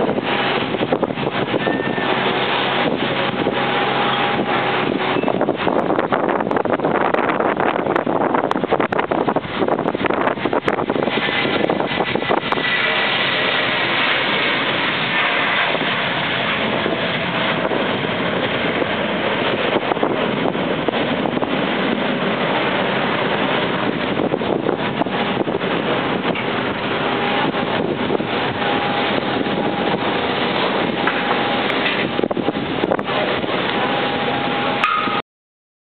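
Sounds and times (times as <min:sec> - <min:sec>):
jet engines roaring: 0:00.0 - 0:35.2
wind buffeting microphone: 0:00.0 - 0:35.2.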